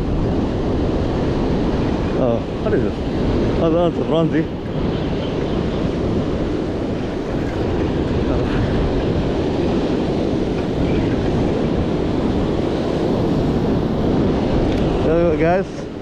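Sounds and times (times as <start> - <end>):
surf breaking on beach: 0.0 - 16.0
wind rumbling on microphone: 0.0 - 16.0.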